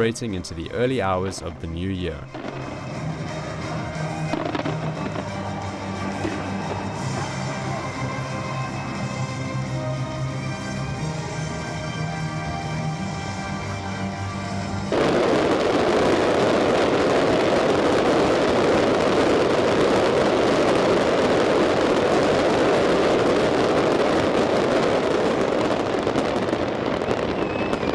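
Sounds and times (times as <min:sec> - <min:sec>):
music: 0:00.0 - 0:27.9
fireworks crackling and banging: 0:00.1 - 0:27.9.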